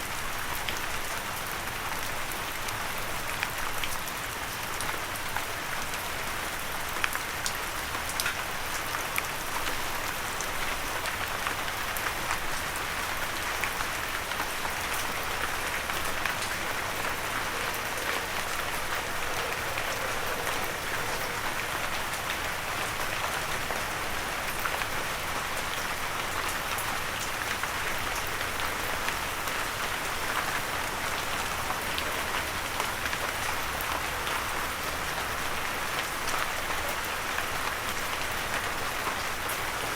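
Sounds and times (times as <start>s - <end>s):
light rain: 0.0s - 39.9s.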